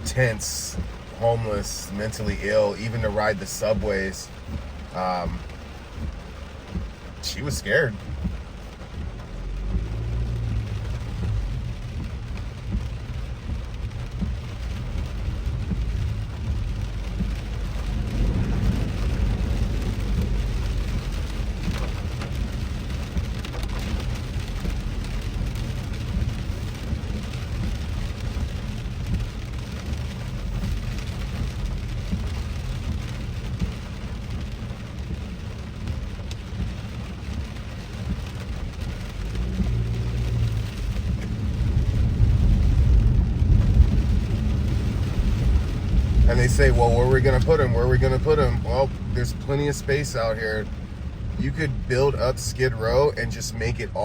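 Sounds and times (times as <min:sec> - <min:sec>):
car driving on wet road: 0:00.0 - 0:54.0
rain pattering on car roof: 0:00.0 - 0:54.0.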